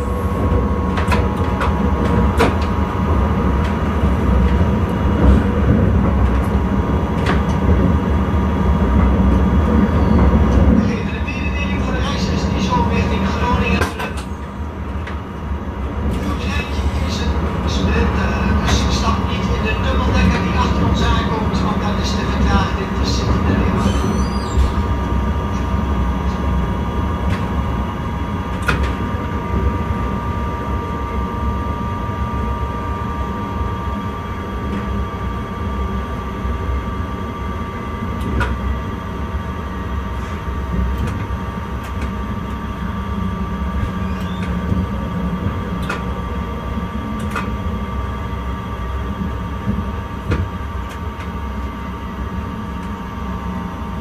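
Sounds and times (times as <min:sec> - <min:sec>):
train rumble with whine: 0:00.0 - 0:54.0.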